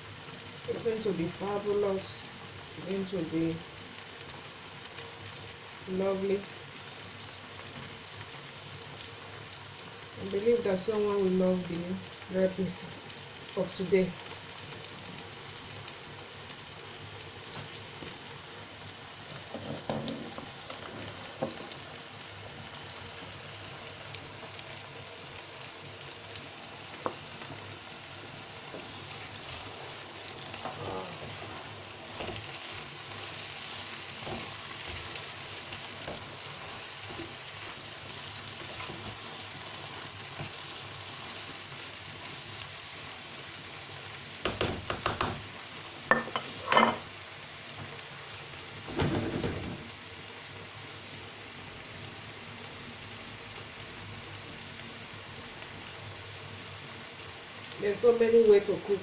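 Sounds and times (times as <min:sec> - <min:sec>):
stew sizzling in frying pan: 0:00.0 - 0:59.0.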